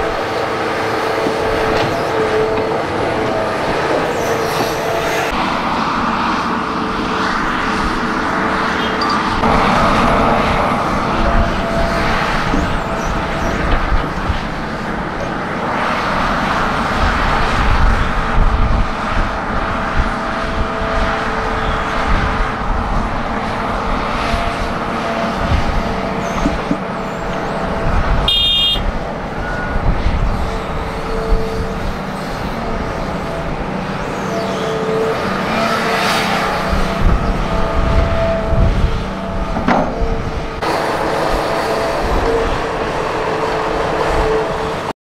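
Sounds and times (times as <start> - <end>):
excavator engine rumbling: 0.0 - 44.9.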